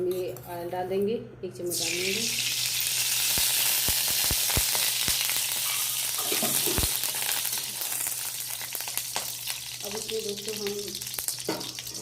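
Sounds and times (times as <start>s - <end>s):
oil sizzling and crackling: 1.7s - 12.0s.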